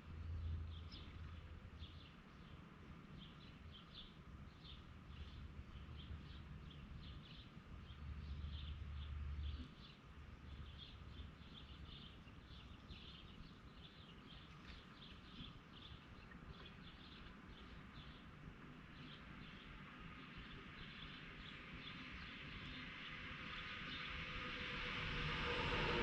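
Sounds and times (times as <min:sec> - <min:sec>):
wild birds chirping: 0:00.6 - 0:24.5.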